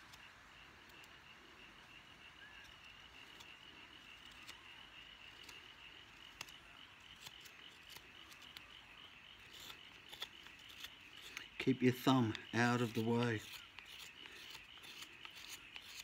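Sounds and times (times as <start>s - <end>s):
faint carving clicks: 0.0s - 1.2s, 2.4s - 16.0s
cricket chirring: 0.0s - 16.0s.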